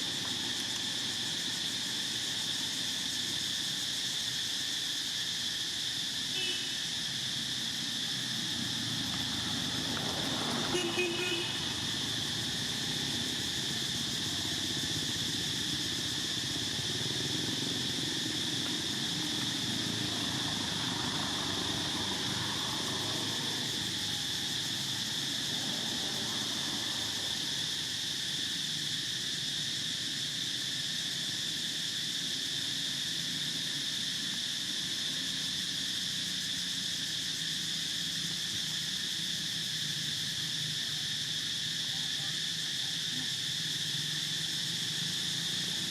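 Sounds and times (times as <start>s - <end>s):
insect chorus buzzing: 0.0s - 45.9s.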